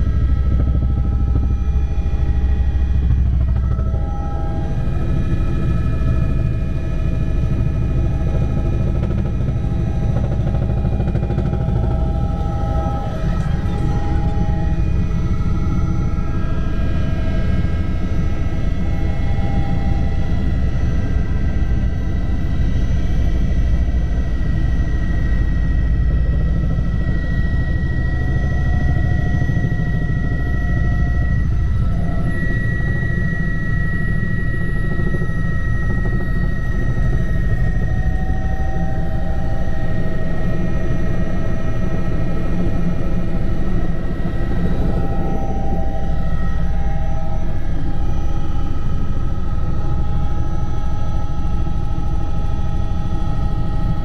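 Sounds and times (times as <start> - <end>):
helicopter rotor noise: 0.0 - 54.0
high whine: 0.0 - 54.0.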